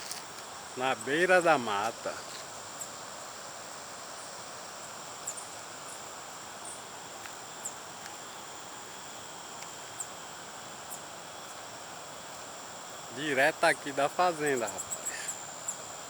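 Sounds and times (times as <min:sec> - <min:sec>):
background hiss: 0:00.0 - 0:16.0
insects droning: 0:00.0 - 0:16.0.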